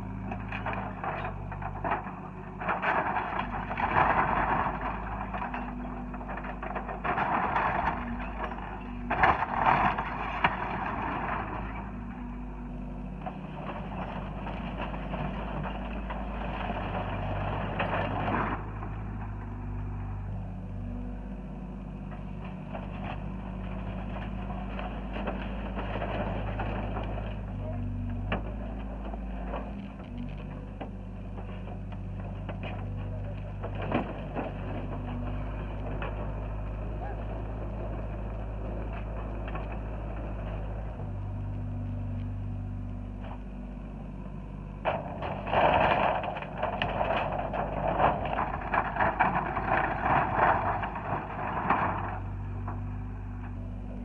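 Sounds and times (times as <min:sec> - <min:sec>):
excavator diesel engine running: 0:00.0 - 0:54.0
wood cracking and crunching: 0:00.1 - 0:54.0.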